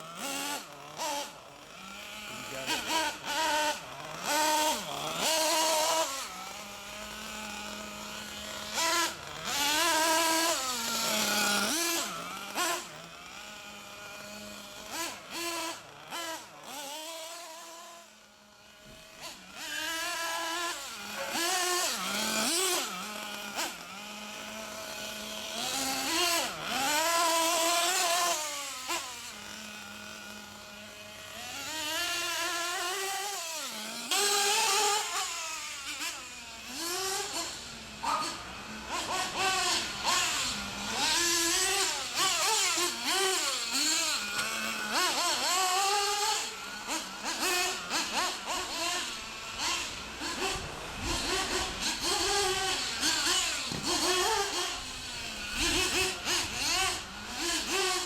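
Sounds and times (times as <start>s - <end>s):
small engine revving: 0.0s - 58.0s.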